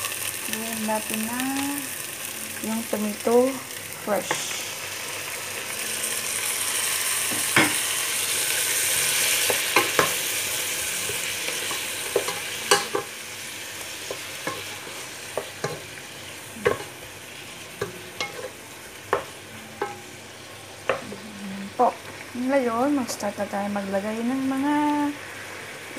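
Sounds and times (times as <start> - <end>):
chicken and vegetables sizzling: 0.0 - 25.9.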